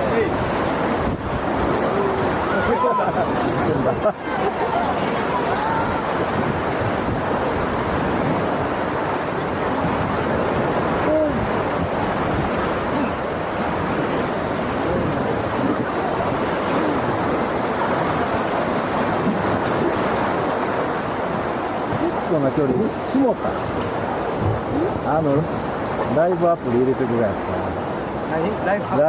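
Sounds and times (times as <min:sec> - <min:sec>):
churning whitewater rapids: 0:00.0 - 0:29.0.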